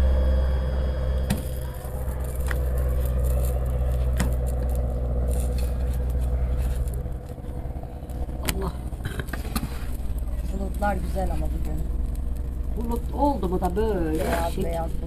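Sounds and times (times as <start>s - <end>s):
light aircraft engine drone: 0.0s - 15.0s.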